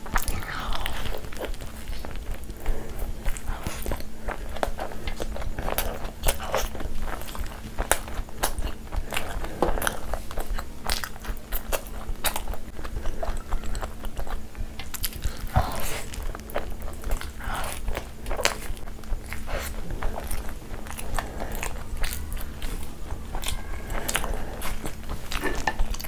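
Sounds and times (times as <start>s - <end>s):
biting and chewing: 0.0s - 26.0s.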